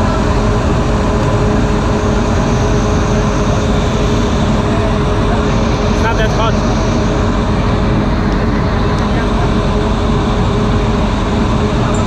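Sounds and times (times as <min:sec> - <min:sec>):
train carriage rumbling: 0:00.0 - 0:12.0.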